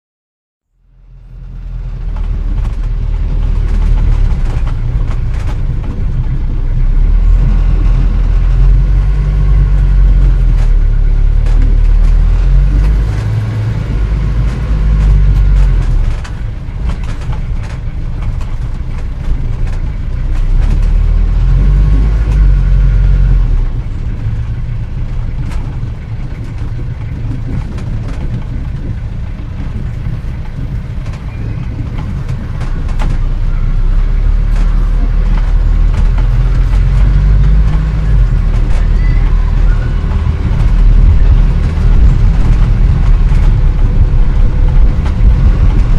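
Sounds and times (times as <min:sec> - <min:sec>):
car engine rumbling: 0:00.6 - 0:45.9.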